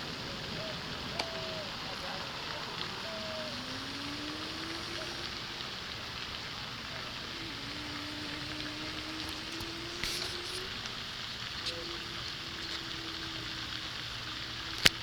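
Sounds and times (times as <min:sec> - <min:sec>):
faint rising hum: 0:00.0 - 0:15.0
waterfall rushing: 0:00.0 - 0:15.0.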